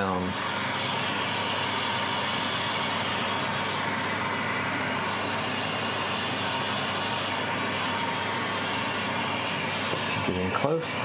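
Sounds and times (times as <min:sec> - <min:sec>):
exhaust fan running: 0:00.0 - 0:11.0
gas torch flame rushing: 0:00.0 - 0:11.0.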